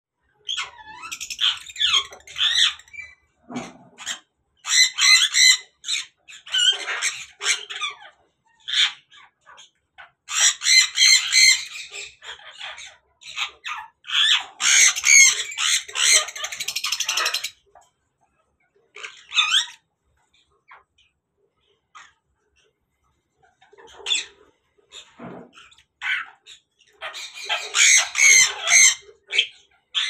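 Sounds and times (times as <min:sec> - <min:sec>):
parrots calling loudly: 0:00.4 - 0:17.8, 0:18.9 - 0:19.9, 0:23.6 - 0:30.0.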